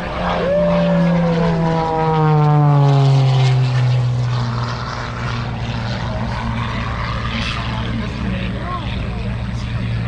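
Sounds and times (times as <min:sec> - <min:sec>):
propeller airplane flying past: 0:00.0 - 0:10.0.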